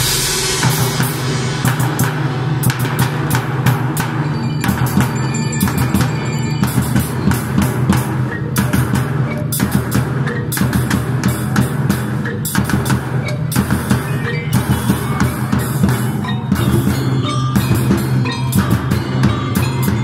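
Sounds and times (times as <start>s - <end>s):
drum and cymbal strikes: 0.0s - 20.0s
percussion ensemble playing: 0.0s - 20.0s.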